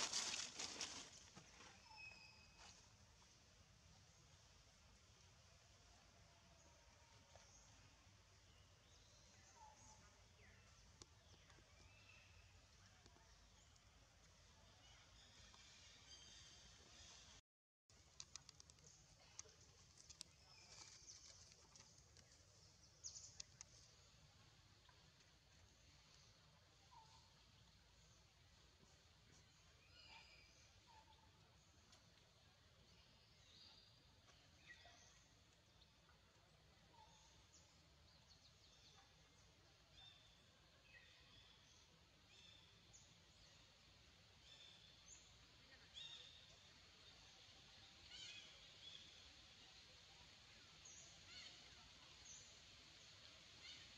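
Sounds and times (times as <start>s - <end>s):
faint outdoor ambience: 0.0s - 53.9s.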